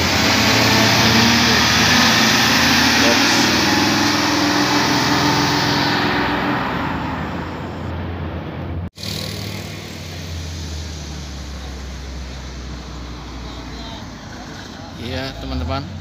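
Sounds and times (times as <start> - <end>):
diesel truck engine passing: 0.0 - 16.0
road noise: 0.0 - 16.0.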